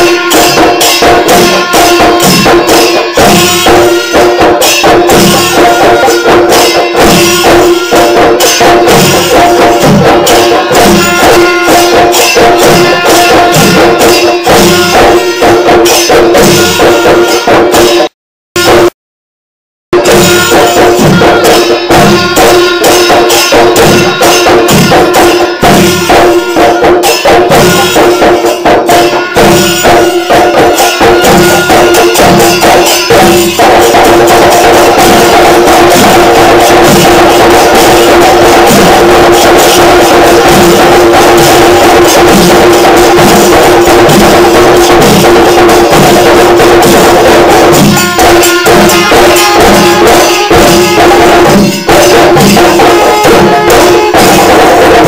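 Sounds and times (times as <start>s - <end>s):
chenda drums beaten with sticks: 0.0s - 18.9s, 19.9s - 55.0s
metallic cymbal jingle: 0.0s - 18.9s, 20.0s - 55.0s.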